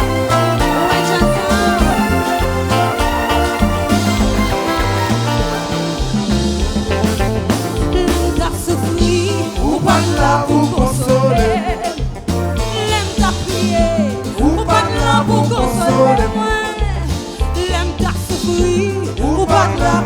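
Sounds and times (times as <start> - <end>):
person singing: 0.0 - 4.8, 7.8 - 16.8, 17.7 - 20.0
bass line: 0.0 - 20.0
live band playing: 0.0 - 20.0.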